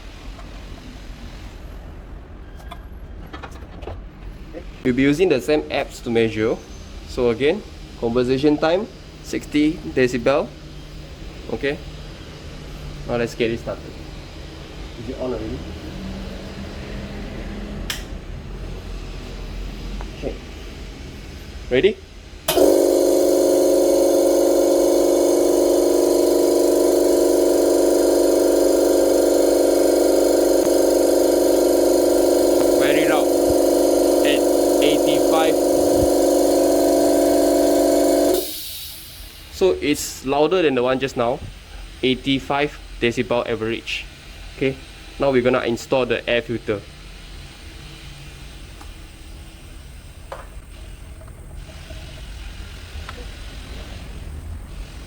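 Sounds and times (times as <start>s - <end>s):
air compressor droning: 0.0s - 2.4s, 4.2s - 55.0s.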